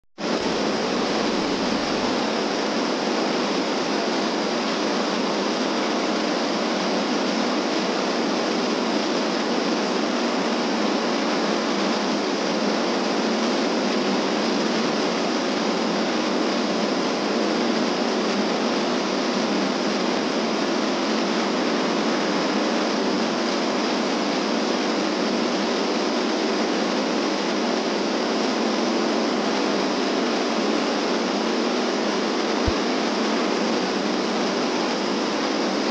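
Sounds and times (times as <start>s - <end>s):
waterfall rushing over boulders: 0.2s - 35.9s.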